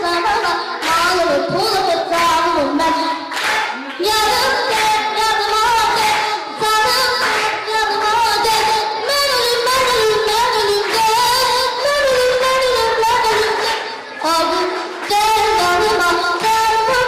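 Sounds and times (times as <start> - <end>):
child singing into a microphone: 0.0 - 17.0.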